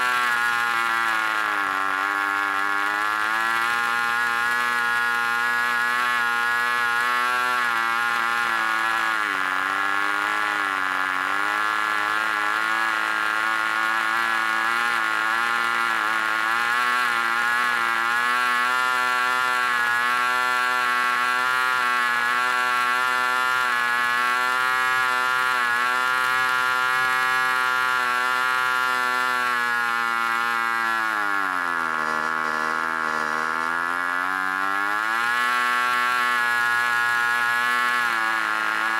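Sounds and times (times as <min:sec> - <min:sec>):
model engine high buzzing drone: 0:00.0 - 0:38.9.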